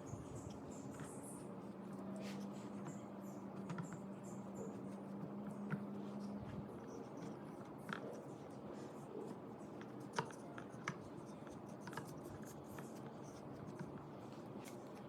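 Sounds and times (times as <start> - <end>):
scratching and rubbing of handwork: 0.0 - 15.0.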